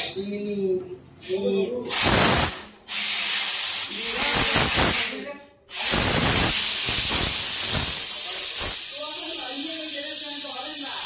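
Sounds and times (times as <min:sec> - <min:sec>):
compressed air hissing: 0:01.9 - 0:11.0.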